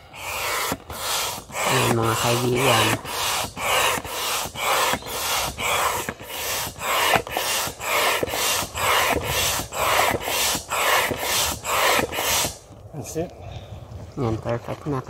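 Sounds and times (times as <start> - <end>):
hand air pump rushing air: 0.0 - 12.6.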